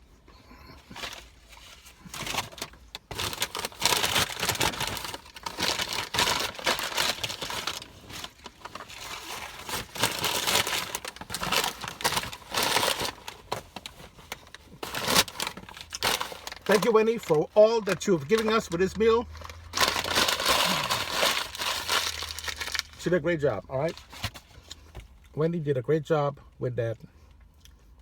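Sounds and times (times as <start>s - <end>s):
paper wrapper crinkling: 0.6s - 24.9s.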